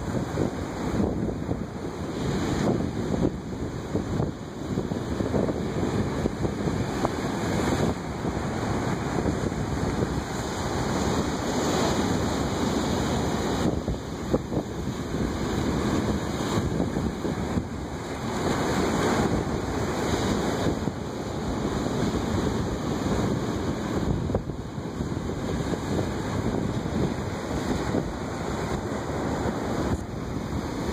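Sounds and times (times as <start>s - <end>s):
surf breaking over rocks: 0.0s - 30.9s
wind buffeting microphone: 0.0s - 30.9s.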